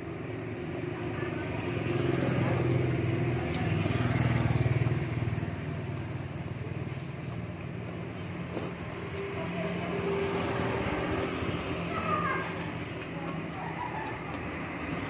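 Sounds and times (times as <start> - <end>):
vehicle engine passing: 0.0 - 15.0.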